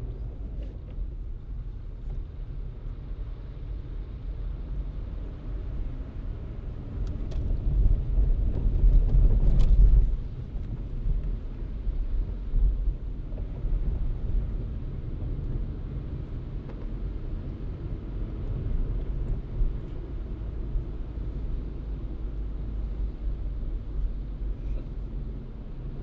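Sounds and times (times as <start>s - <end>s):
car tyres and engine rumbling: 0.0s - 26.0s.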